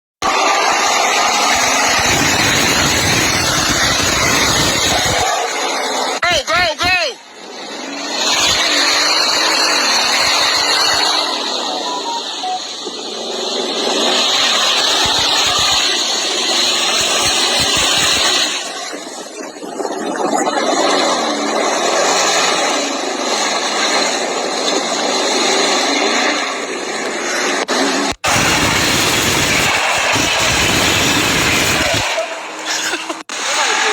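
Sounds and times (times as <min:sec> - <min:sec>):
car engine and tyre noise off road: 0:00.2 - 0:33.9.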